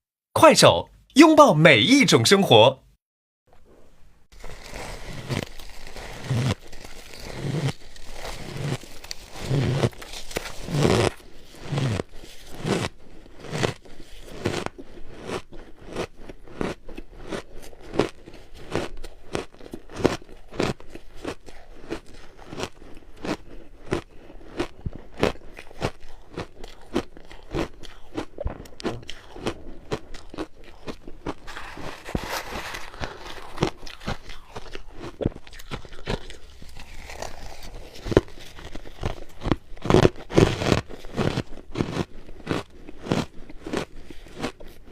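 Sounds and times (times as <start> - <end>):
ice crunching between teeth: 4.4 - 44.9.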